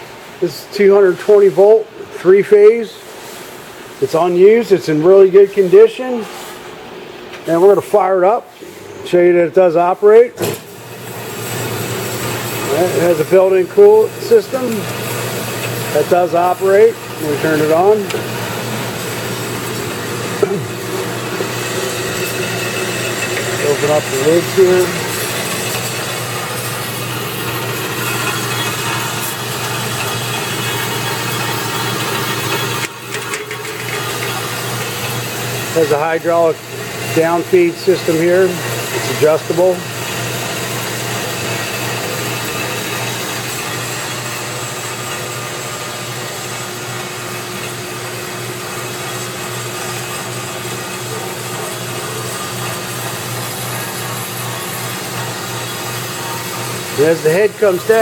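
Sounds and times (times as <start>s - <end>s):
band saw motor humming: 10.6s - 58.0s
saw blade running on wheels: 11.3s - 58.0s.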